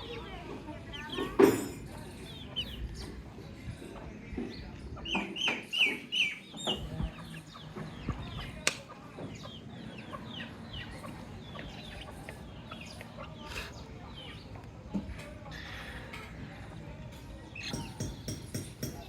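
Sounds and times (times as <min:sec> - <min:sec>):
baby chicks peeping: 0:00.0 - 0:19.0.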